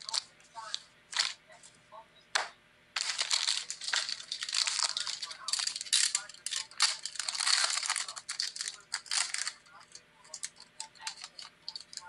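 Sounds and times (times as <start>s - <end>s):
plastic wrapping crinkling and tearing: 0.0s - 1.4s, 3.0s - 12.0s.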